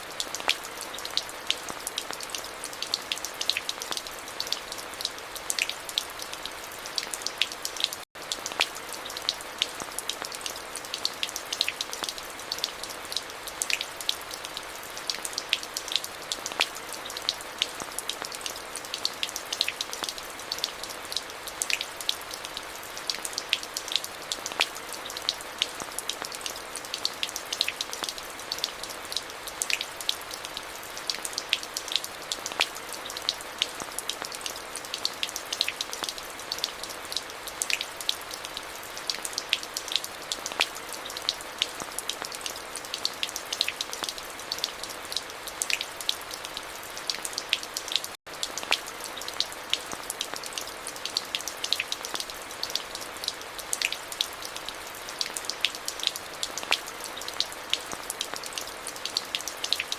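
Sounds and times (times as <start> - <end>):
raindrops ticking close by: 0.0 - 59.9
steady rain hiss: 0.0 - 59.9.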